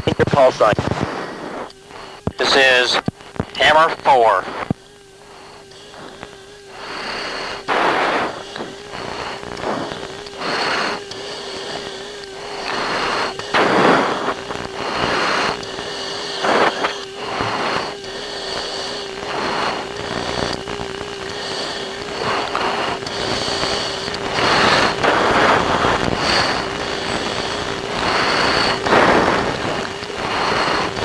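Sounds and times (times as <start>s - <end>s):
radio static hiss bursts: 0.0s - 31.0s
wavering hum: 0.0s - 31.0s.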